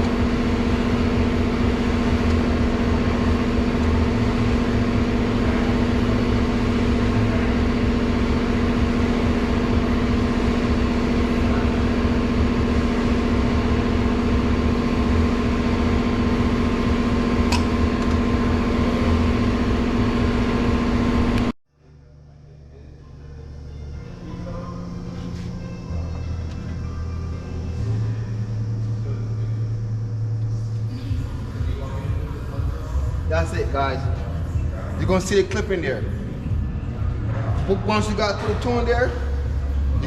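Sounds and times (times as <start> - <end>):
steady mechanical drone: 0.0 - 40.0.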